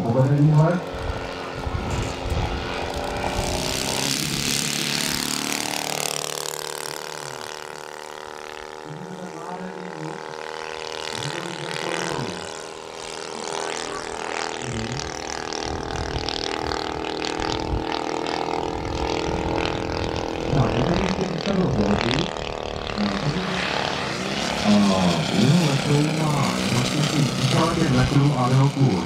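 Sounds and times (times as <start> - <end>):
model plane engine droning: 0.0 - 29.0.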